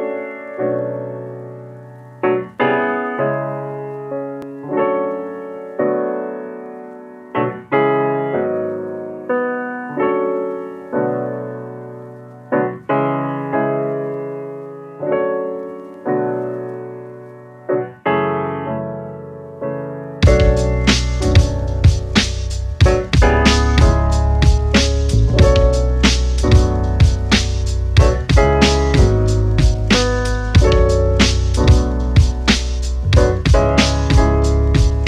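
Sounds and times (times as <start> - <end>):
piano chords ringing: 0.0 - 35.0.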